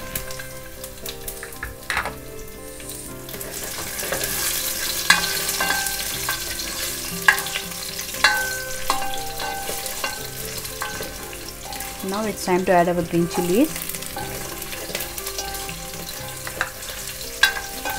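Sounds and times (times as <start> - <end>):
spices sizzling in hot oil: 0.0 - 17.9.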